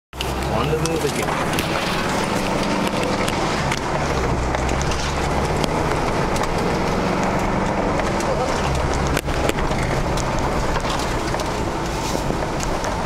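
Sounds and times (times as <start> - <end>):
low engine hum: 0.2 - 13.0
vehicle knocks and rattles: 0.6 - 13.0.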